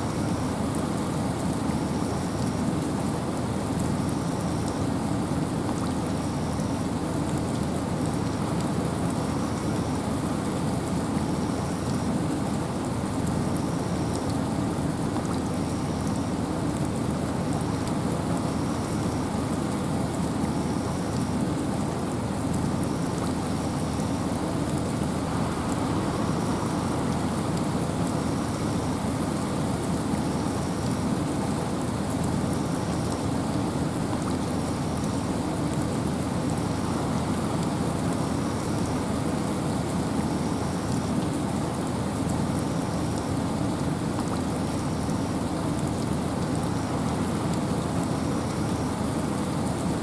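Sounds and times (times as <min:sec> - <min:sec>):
rain falling in forest: 0:00.0 - 0:50.0
wind: 0:00.0 - 0:50.0.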